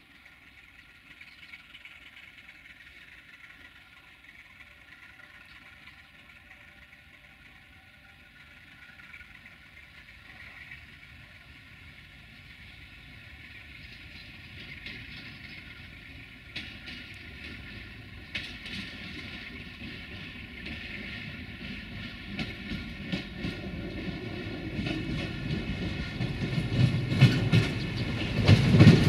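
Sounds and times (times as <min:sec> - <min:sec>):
train engine drone with whine: 0:00.0 - 0:29.0.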